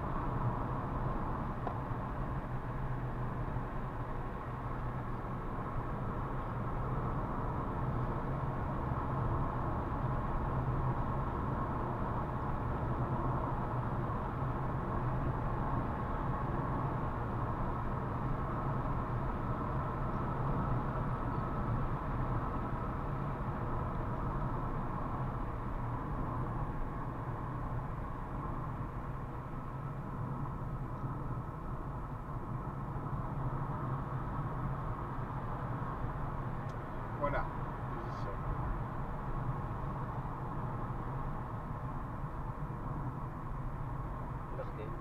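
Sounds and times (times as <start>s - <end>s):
car engine and tyre road noise: 0.0s - 45.0s.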